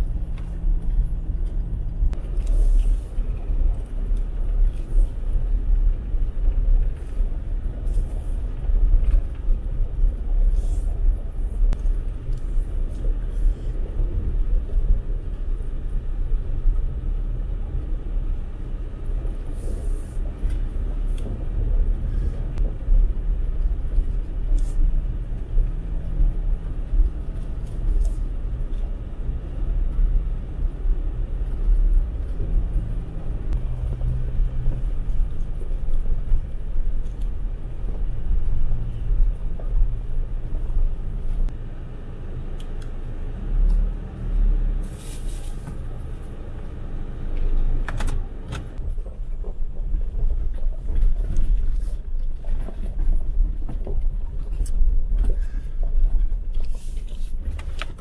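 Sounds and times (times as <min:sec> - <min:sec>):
tyre and road noise on gravel: 0:00.0 - 0:41.6, 0:43.4 - 0:58.0
car engine running low: 0:00.0 - 0:58.0.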